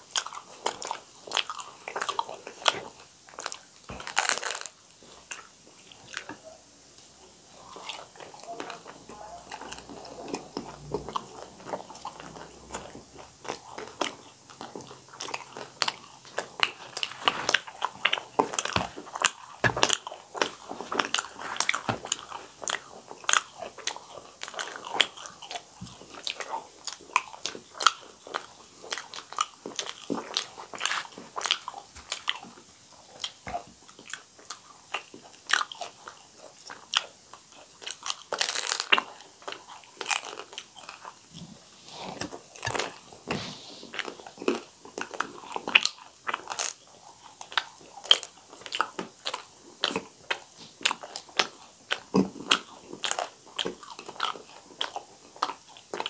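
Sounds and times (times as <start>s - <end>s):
people chewing crisp fried bread: 0.0s - 56.0s.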